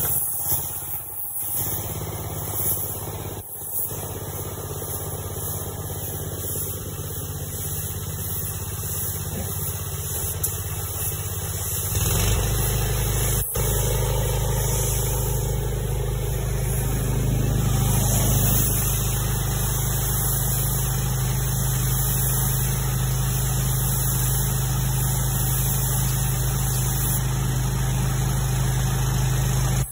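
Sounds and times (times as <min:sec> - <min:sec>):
engine running: 0:00.0 - 0:29.9.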